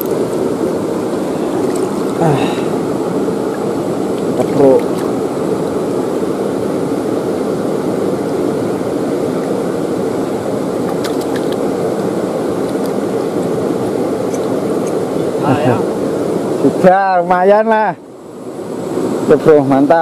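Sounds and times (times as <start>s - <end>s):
river water rushing over rocks: 0.0s - 17.5s.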